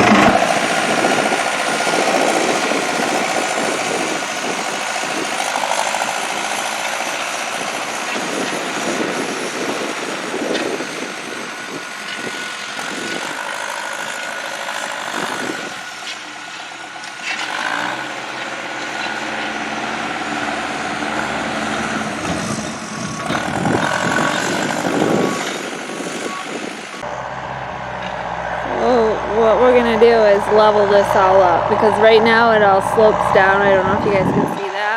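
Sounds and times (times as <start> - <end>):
earthmoving machinery engine: 0.0 - 34.9.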